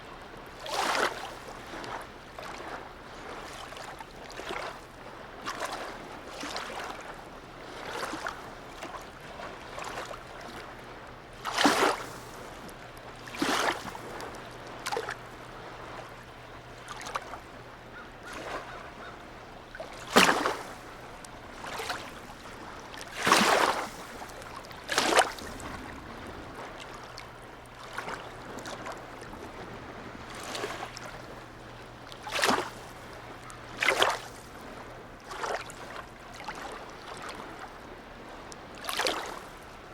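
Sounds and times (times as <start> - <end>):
constant wash of water: 0.0 - 39.9
water lapping and splashing: 0.0 - 39.9.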